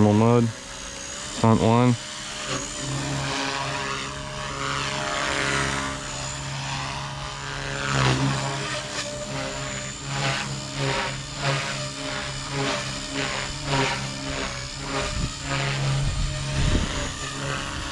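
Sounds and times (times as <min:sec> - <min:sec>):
rc helicopter rotor whir: 0:00.0 - 0:17.9.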